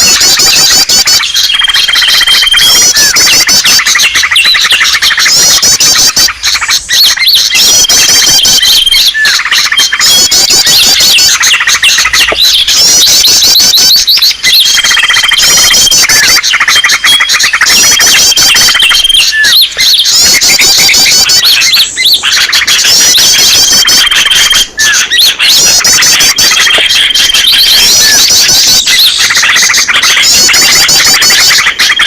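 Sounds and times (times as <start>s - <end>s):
high bird whistle: 0.0s - 32.0s
small birds chirping and trilling: 0.0s - 32.0s.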